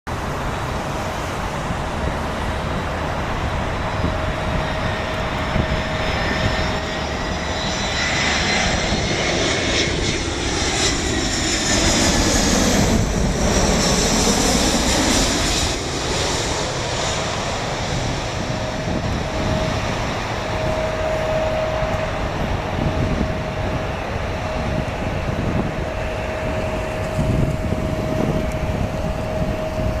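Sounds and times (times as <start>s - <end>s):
jet engines whine and rumble: 0.1s - 30.0s.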